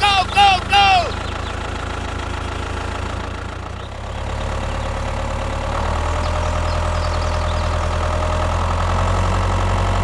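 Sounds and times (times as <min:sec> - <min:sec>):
tractor motor running: 0:00.0 - 0:10.0.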